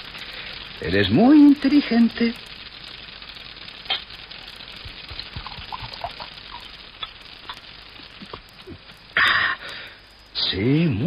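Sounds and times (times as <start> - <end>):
soft irregular clicking: 0.0 - 10.4
steady hiss: 0.0 - 11.0.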